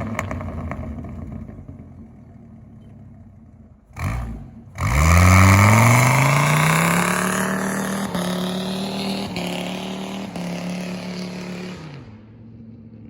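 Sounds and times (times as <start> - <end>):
engine exhaust accelerating: 0.0 - 13.0.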